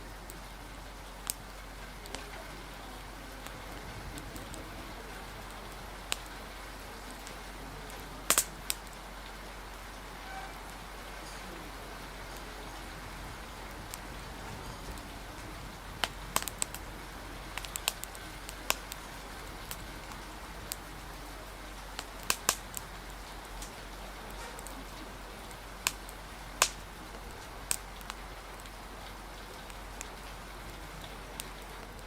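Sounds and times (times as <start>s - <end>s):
fire crackling and popping: 0.0s - 32.0s
rain hissing: 0.0s - 32.0s.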